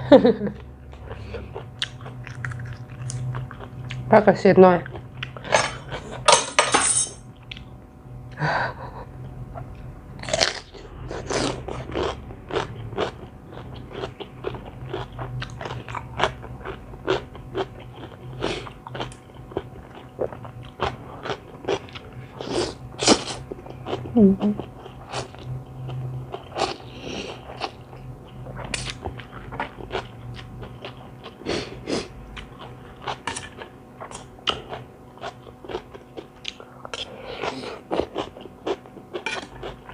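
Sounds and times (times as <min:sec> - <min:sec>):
chewing crunchy vegetables: 0:00.9 - 0:04.1, 0:09.6 - 0:39.9.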